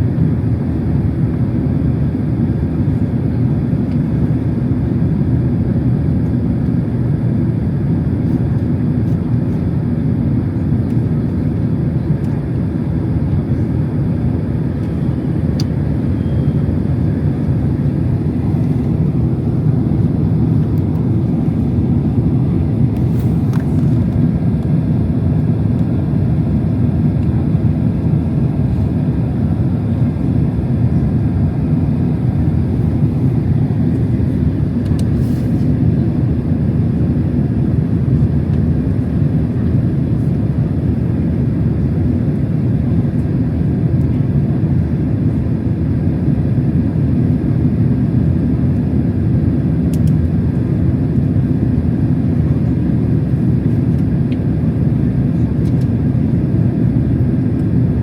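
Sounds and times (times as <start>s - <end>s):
airliner cabin roar: 0.0s - 58.0s.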